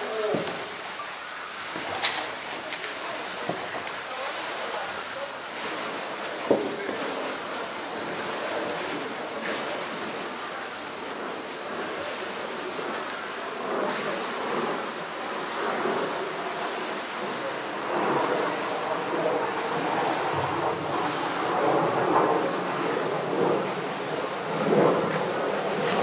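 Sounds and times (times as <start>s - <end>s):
cicadas droning: 0.0s - 26.0s
rough noisy haze: 0.0s - 26.0s.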